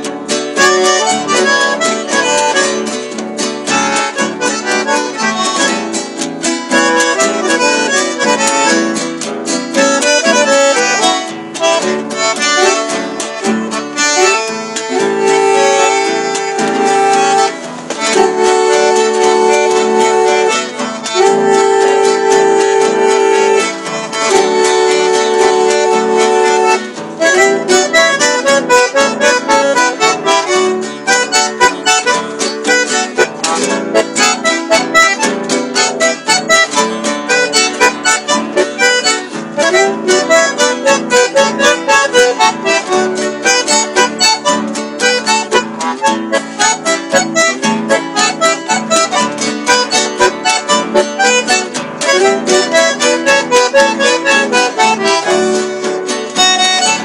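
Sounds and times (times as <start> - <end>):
bandoneon playing lively music: 0.0 - 57.0.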